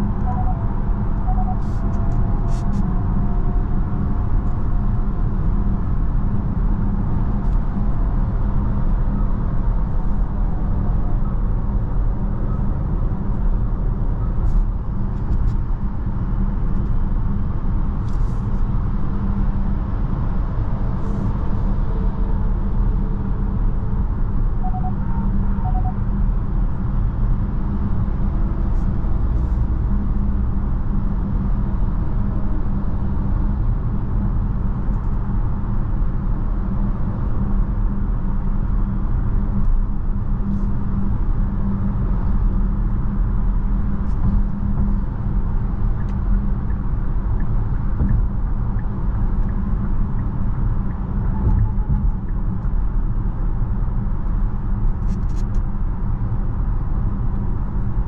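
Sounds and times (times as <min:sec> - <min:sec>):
wind noise inside car: 0:00.0 - 0:58.0.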